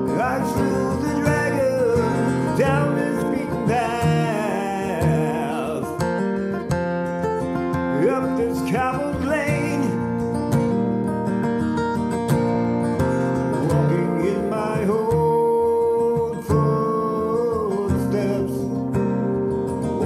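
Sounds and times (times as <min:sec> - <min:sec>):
acoustic guitar accompaniment: 0:00.0 - 0:20.0.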